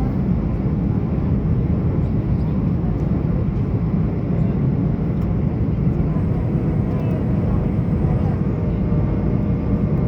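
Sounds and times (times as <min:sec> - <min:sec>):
jet engine rumble in cabin: 0:00.0 - 0:10.0.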